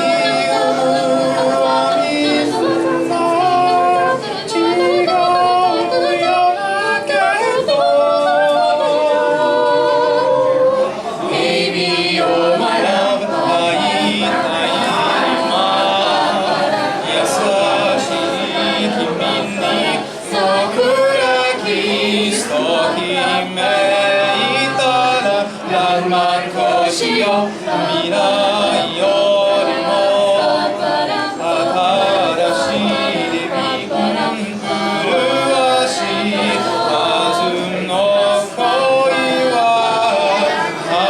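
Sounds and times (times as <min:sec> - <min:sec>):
a cappella group singing in harmony: 0:00.0 - 0:41.0.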